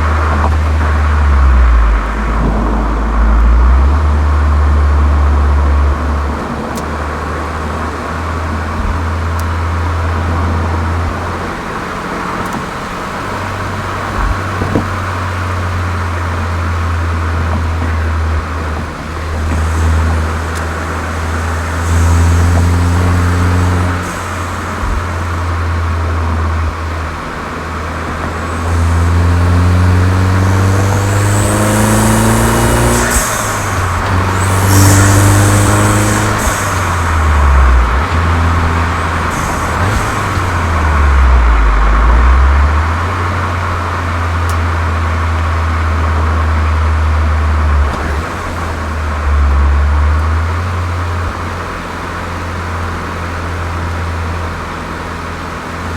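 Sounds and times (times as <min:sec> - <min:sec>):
car exhaust drone revving: 0:00.0 - 0:55.9.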